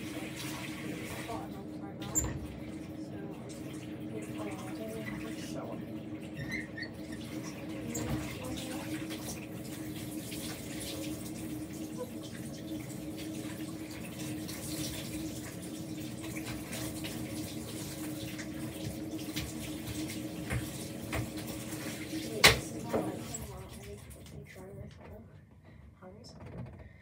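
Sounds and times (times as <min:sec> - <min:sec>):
shower water splashing into bathtub: 0:00.0 - 0:25.2.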